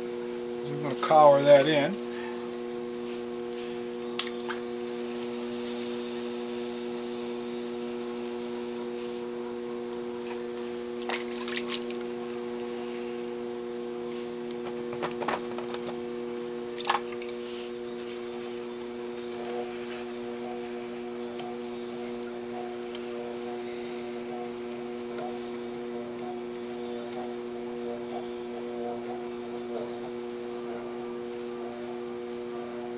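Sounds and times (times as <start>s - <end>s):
pottery wheel humming: 0.0s - 32.9s.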